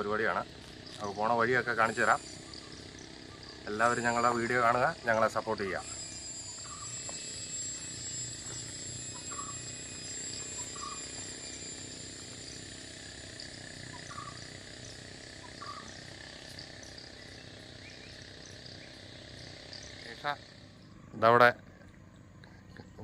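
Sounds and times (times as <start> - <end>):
insects droning high-pitched: 0.0 - 23.0.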